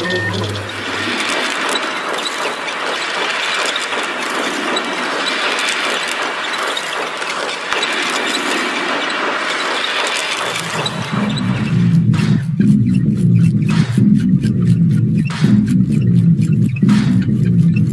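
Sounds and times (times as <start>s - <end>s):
low hum: 0.0s - 17.9s
machines clattering and whirring: 0.0s - 17.9s
ratchet-like clicks: 0.0s - 17.9s
squeaks: 0.0s - 17.9s.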